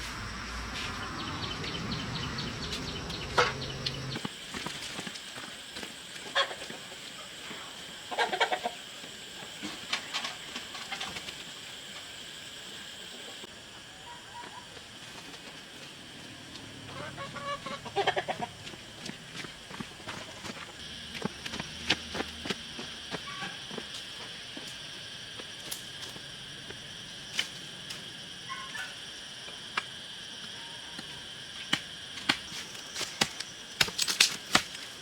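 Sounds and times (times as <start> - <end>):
high insect-like drone: 0.0 - 35.0.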